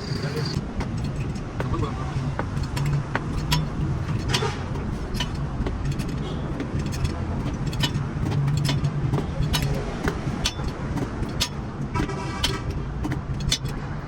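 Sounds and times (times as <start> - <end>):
sharp clicks and knocks: 0.0 - 14.0
vehicle engine humming: 0.0 - 14.0.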